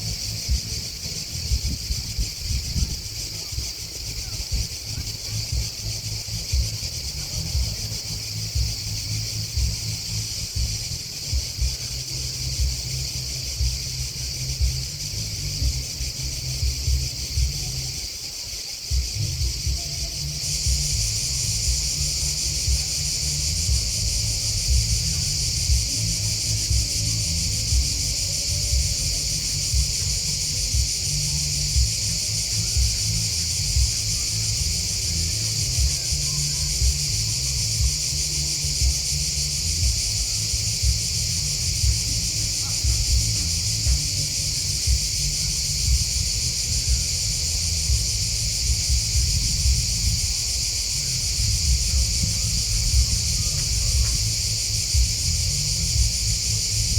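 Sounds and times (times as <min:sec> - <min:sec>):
grasshoppers and crickets chirping: 0:00.0 - 0:56.9
low uneven rumble: 0:00.0 - 0:56.9.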